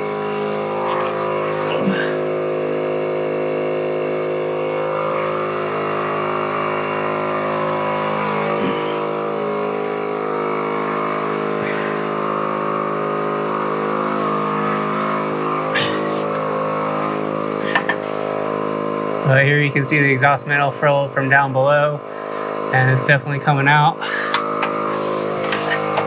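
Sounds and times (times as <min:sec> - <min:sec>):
motor running steadily: 0:00.0 - 0:26.0.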